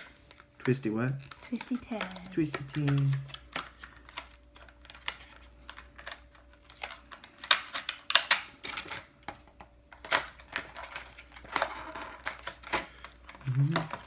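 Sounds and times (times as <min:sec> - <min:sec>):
plastic blister pack crackling: 0:00.0 - 0:09.3, 0:09.9 - 0:14.0.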